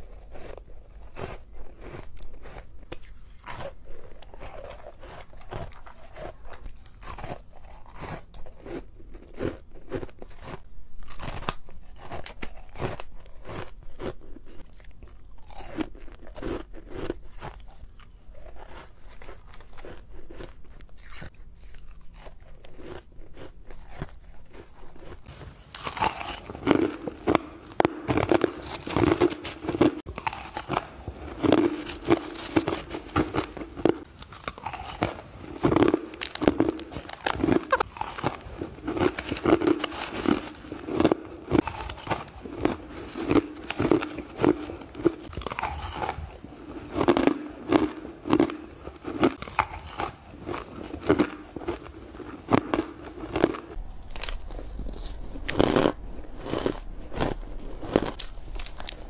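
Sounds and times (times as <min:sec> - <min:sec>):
crunching crushed ice: 0:00.0 - 0:21.4, 0:22.0 - 0:59.0.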